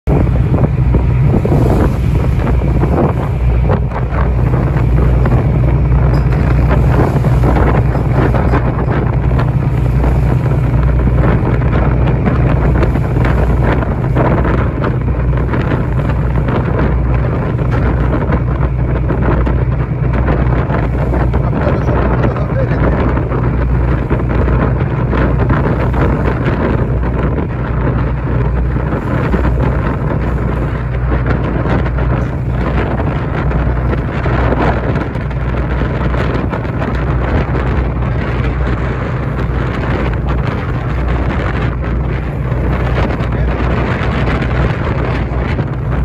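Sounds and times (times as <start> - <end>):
low rumble: 0.0 - 46.0
wind buffeting microphone: 0.0 - 46.0
water rushing past: 0.1 - 46.0.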